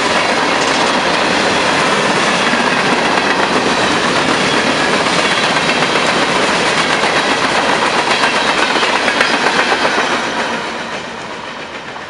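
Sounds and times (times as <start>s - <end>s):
train wheels clacking over rail joints: 0.0s - 12.0s.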